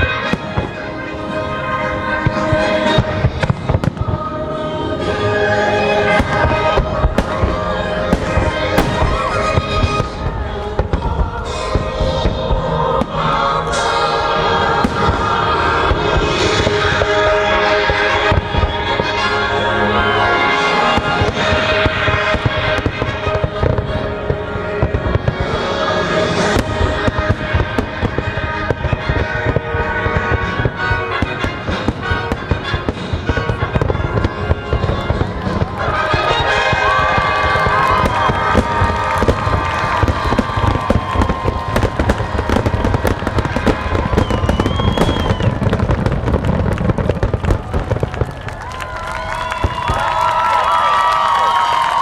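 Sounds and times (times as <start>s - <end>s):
fireworks booming and cracking: 0.0s - 52.0s
orchestral music: 0.0s - 52.0s.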